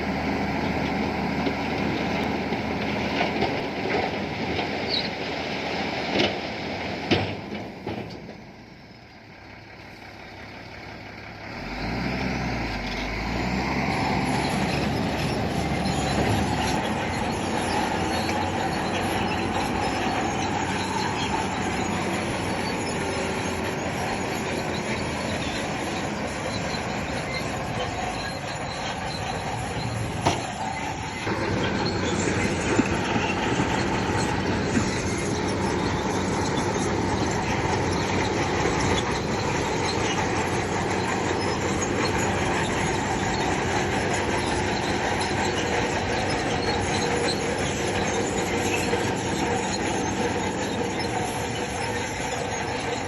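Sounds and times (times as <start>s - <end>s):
steel tracks clanking and squealing: 0.0s - 9.1s, 11.5s - 53.0s
bulldozer diesel engine running: 0.0s - 53.0s.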